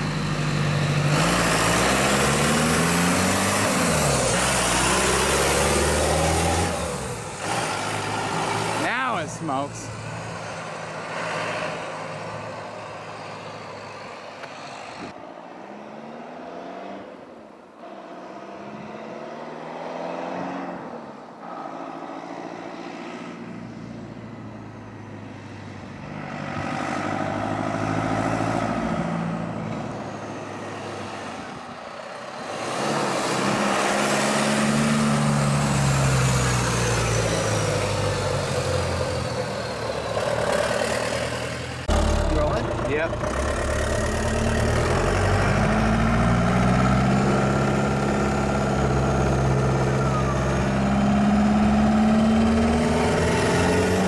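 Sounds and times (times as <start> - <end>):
diesel truck engine accelerating: 0.0 - 15.2, 22.2 - 54.0.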